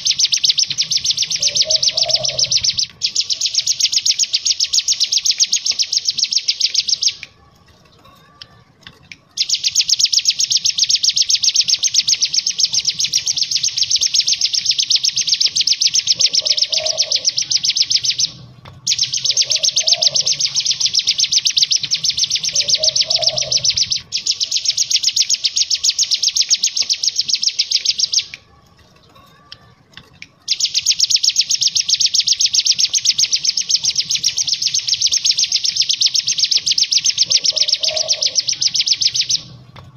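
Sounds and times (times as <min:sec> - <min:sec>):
bird rattling song: 0:00.0 - 0:39.9.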